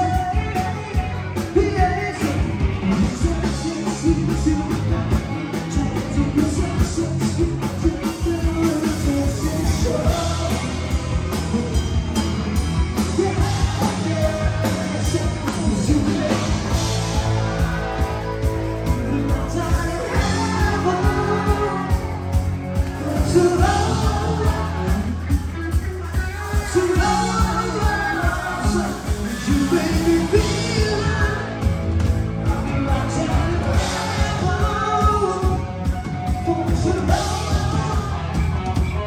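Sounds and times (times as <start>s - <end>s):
drums keeping a steady beat: 0.0s - 39.0s
person singing: 0.0s - 39.0s
rock band playing live: 0.0s - 39.0s.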